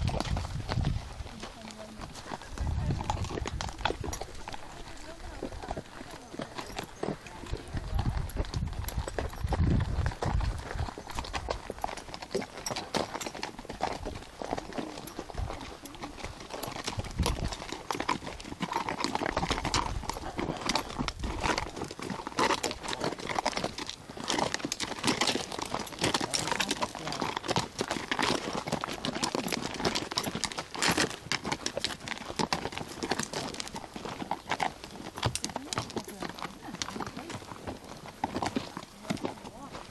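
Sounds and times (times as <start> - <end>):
horse hooves clip-clopping: 0.0 - 39.9.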